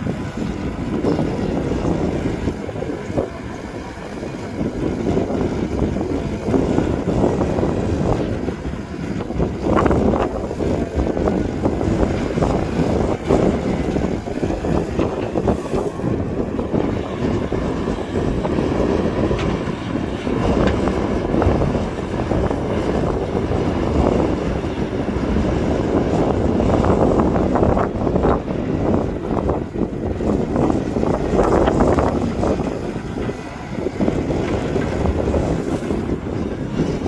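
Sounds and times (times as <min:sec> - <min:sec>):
diesel machinery engine running: 0:00.0 - 0:37.0
wind on microphone rumble: 0:00.0 - 0:37.0.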